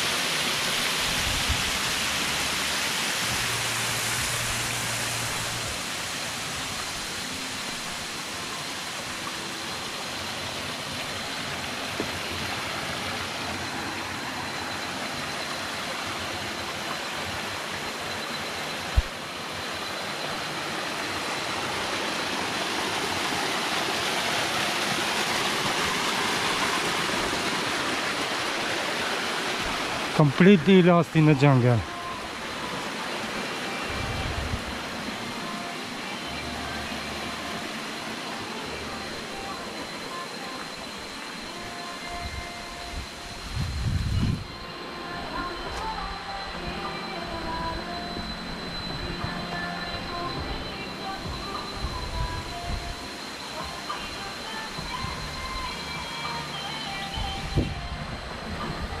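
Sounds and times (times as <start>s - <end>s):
waterfall splashing over rocks: 0.0s - 43.7s, 50.9s - 59.0s.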